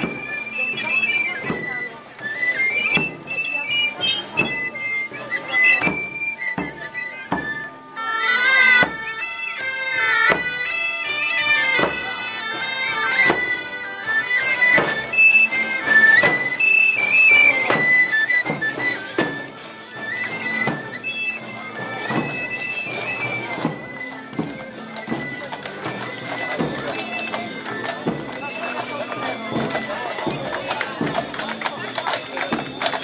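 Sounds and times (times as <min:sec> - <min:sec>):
drum beating steadily: 0:00.0 - 0:33.0
shrill pipes playing folk melody: 0:00.0 - 0:33.0.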